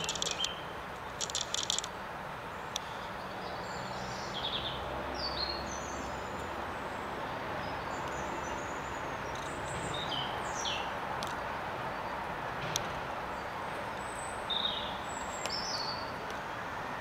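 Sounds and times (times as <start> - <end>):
small birds chirping: 0.0 - 12.3, 13.2 - 16.9
outdoor background rumble: 0.0 - 17.0.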